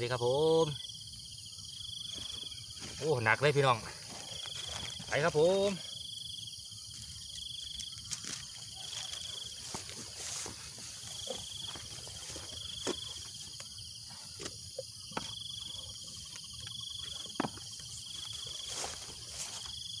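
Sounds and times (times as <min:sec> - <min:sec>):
insect pulsed trill: 0:00.0 - 0:20.0
insects buzzing: 0:00.0 - 0:20.0.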